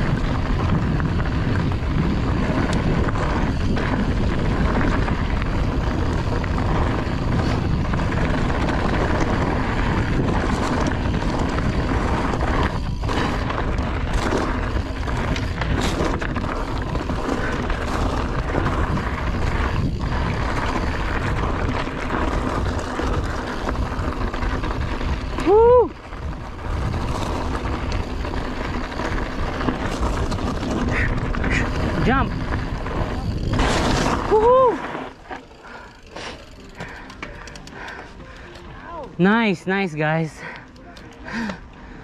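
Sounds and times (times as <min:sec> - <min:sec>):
wind buffeting microphone: 0:00.0 - 0:36.1
bike tyres rolling on rocky trail: 0:00.0 - 0:42.0.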